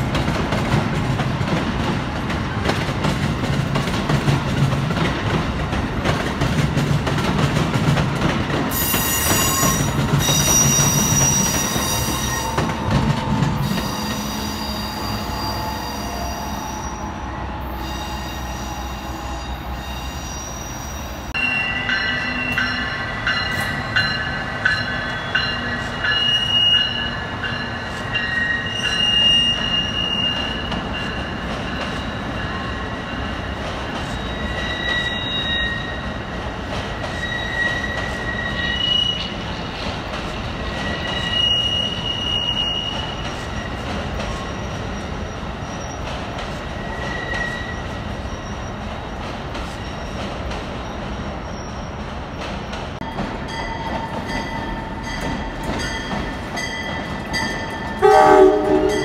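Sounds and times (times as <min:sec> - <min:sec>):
rail car wheels squealing: 0:08.7 - 0:59.0.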